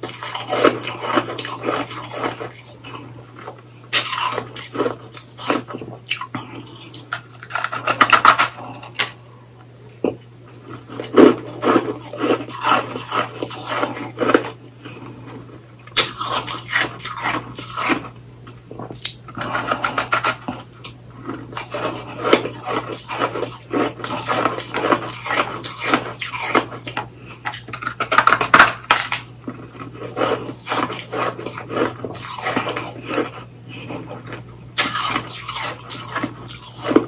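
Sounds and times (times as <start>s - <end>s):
crunching shaved ice: 0.0s - 14.6s, 15.9s - 18.2s, 18.9s - 37.0s.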